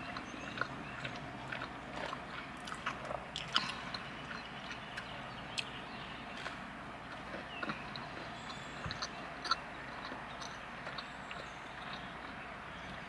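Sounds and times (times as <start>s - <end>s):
quiet chewing: 0.0s - 13.0s.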